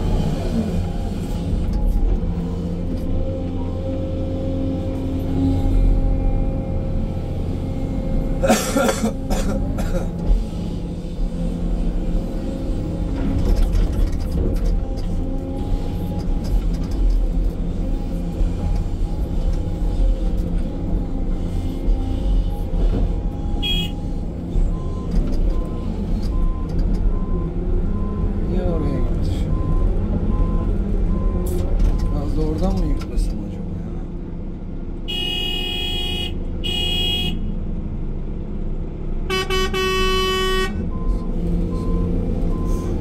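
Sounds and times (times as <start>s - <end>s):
excavator diesel engine and hydraulics: 0.0s - 43.0s.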